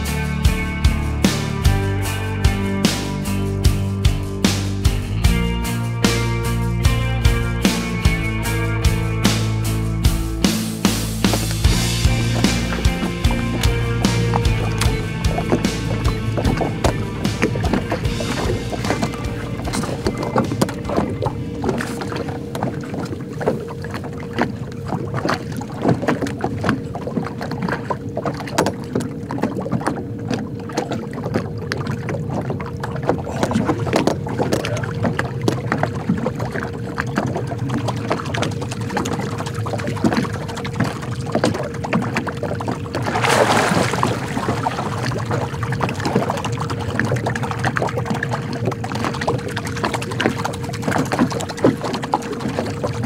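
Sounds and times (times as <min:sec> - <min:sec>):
waves lapping against hull: 0:00.0 - 0:53.0
rushing splashing water: 0:07.2 - 0:53.0.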